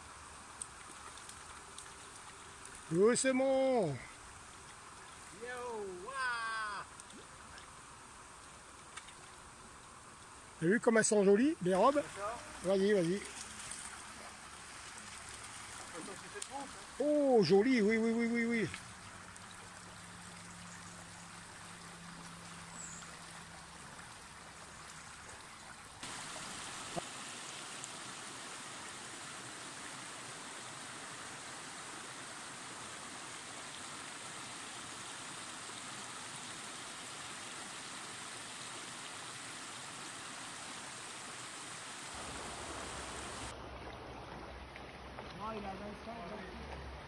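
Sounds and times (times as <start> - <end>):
stream rushing over rocks: 0.0 - 7.8, 10.5 - 47.0.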